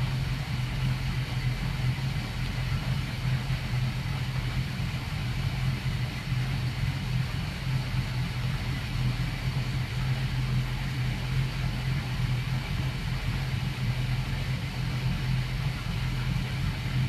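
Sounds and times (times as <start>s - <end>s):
boat engines idling: 0.0s - 17.0s.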